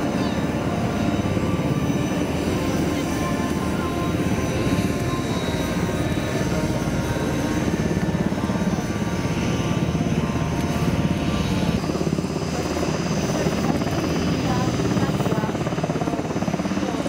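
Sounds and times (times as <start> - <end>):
turboprop engines with pulsing propellers: 0.0 - 17.0.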